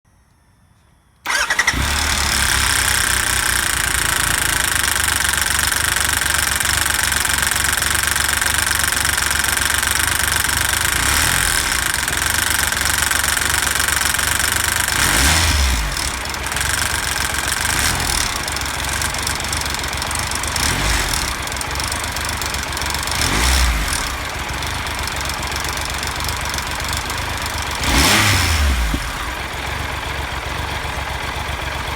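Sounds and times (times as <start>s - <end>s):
motorcycle engine with chain rattle: 1.2s - 31.9s.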